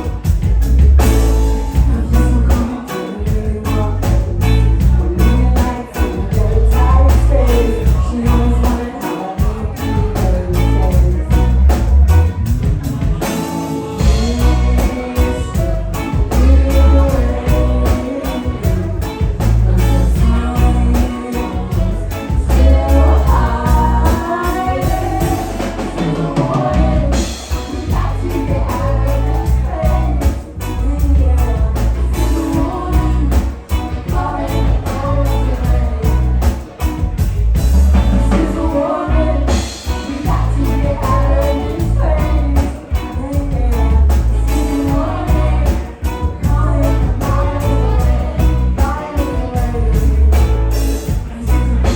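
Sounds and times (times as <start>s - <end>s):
live rock band playing: 0.0s - 51.9s
woman singing lead vocals: 0.0s - 51.9s.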